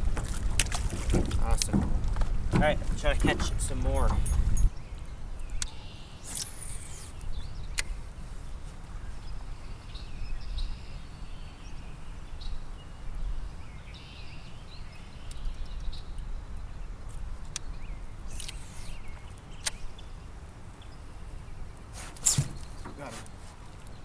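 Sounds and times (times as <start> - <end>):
wind rumbling on microphone: 0.0 - 24.0
birds chirping: 2.5 - 24.0.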